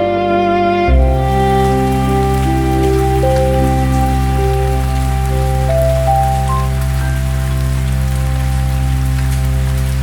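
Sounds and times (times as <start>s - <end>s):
slow ambient music: 0.0s - 10.0s
soft rain pattering: 1.0s - 10.0s.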